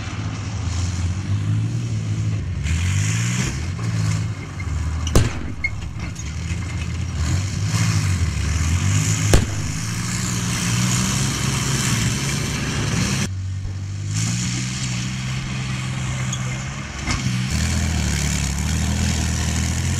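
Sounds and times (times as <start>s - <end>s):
diesel engine running hard: 0.0s - 19.9s
track and gravel hiss: 0.0s - 19.9s.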